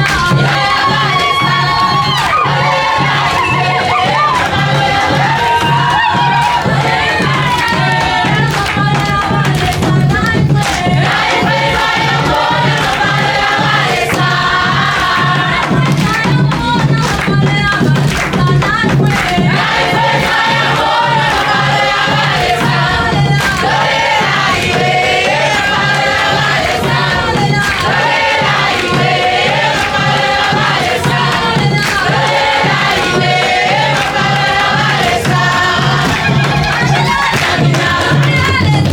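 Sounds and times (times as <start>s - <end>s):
band with steady beat: 0.0s - 38.9s
group singing worship song: 0.0s - 38.9s.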